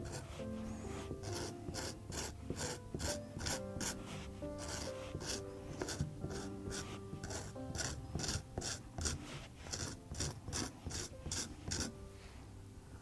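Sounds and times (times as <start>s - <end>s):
knife scraping cheese rind: 0.0s - 0.4s, 1.0s - 4.0s, 4.6s - 11.9s
quiet background music: 0.0s - 13.0s.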